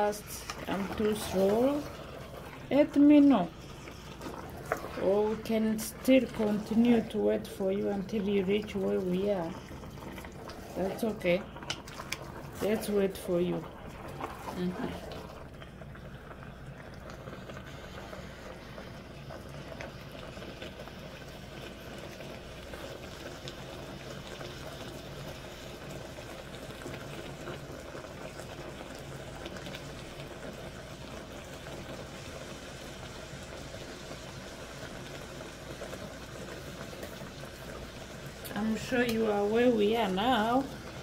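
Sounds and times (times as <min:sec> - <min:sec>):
vegetables sizzling in sauce: 0:00.0 - 0:15.5, 0:17.2 - 0:41.0.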